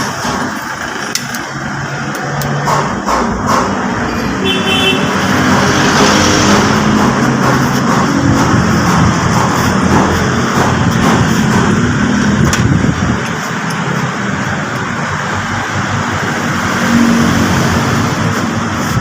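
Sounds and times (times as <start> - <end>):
road traffic noise: 0.0 - 19.0
vehicle engine: 0.0 - 19.0.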